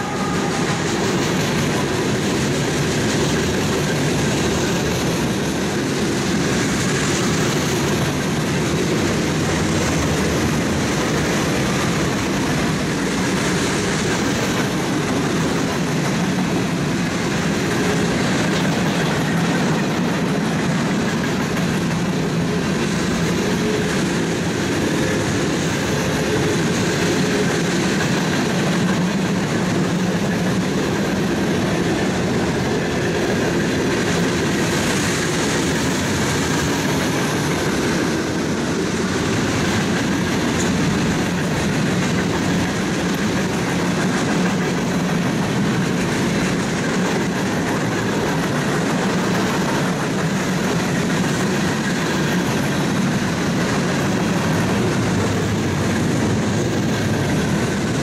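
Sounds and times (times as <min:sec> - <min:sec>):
freight train cars rolling past: 0:00.0 - 0:58.0
steel wheels rumbling on rails: 0:00.0 - 0:58.0.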